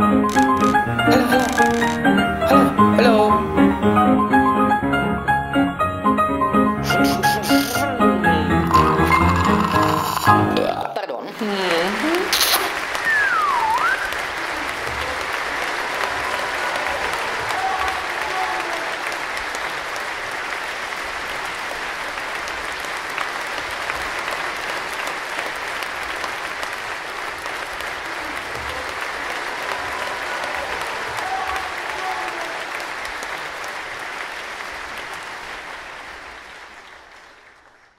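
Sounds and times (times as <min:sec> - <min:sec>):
audience applauding: 0:00.0 - 0:04.6, 0:06.8 - 0:37.9.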